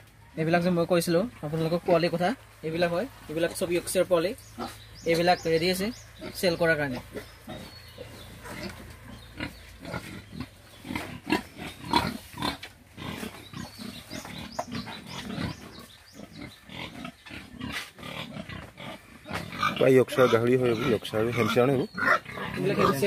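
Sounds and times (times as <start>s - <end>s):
pigs grunting: 2.8s - 23.0s.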